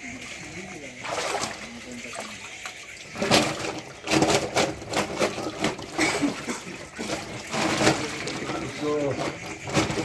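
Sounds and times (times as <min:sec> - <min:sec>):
water splashing in tank: 0:00.0 - 0:10.0.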